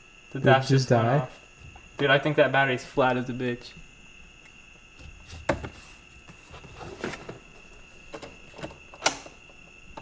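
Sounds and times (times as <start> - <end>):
faint high-pitched whine: 0.0 - 10.0.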